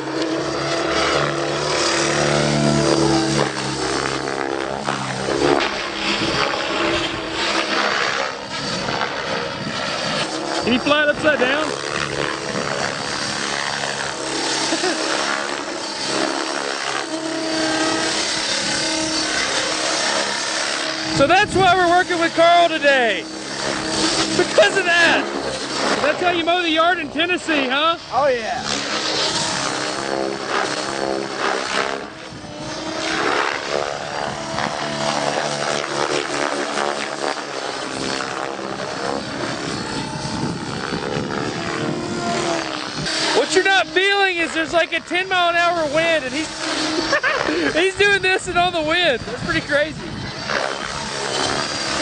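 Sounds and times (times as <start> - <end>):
model helicopter rotor whine: 0.0 - 52.0.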